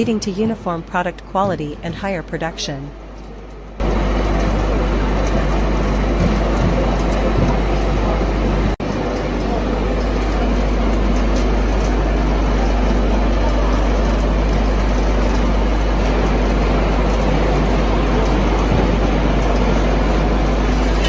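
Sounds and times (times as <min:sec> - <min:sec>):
machinery rumbling: 0:00.0 - 0:21.0.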